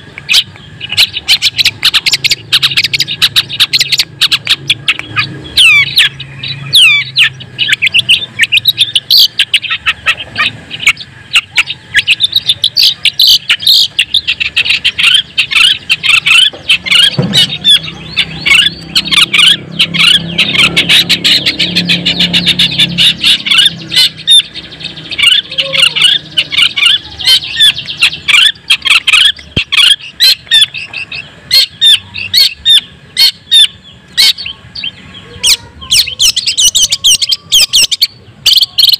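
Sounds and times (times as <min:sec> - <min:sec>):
shrike singing sharp chirps: 0:00.0 - 0:38.9.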